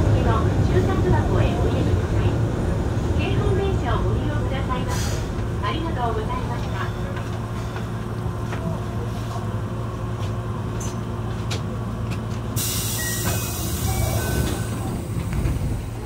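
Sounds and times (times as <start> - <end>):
tram humming: 0.0 - 16.0.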